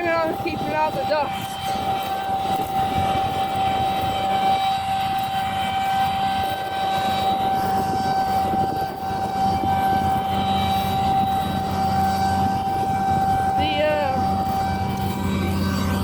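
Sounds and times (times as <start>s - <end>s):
combine harvester drone with whine: 0.0s - 16.0s.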